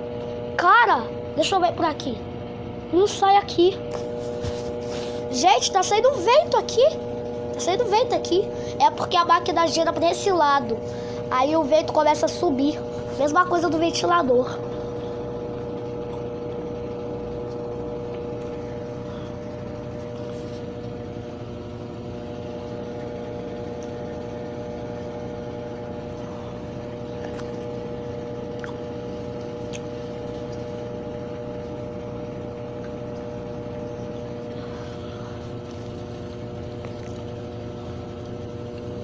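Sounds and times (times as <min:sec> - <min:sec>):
washing machine spinning: 0:00.0 - 0:39.0.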